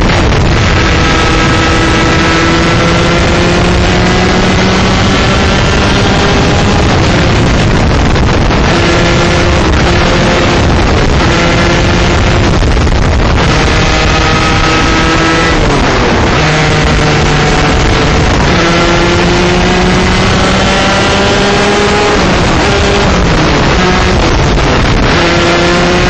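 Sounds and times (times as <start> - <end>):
kart engine revving and shifting: 0.0 - 26.0
wind rush on microphone: 0.0 - 26.0.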